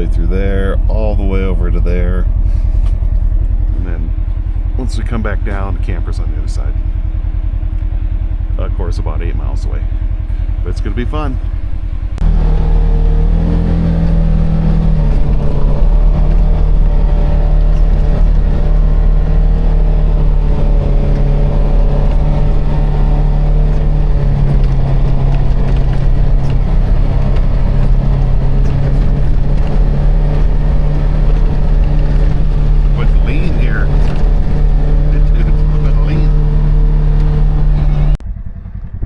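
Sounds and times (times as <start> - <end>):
utility vehicle engine droning: 0.0 - 39.0.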